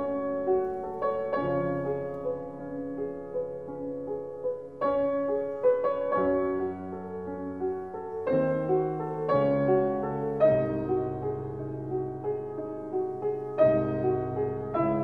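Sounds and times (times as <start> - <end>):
slow solo piano music: 0.0 - 15.0.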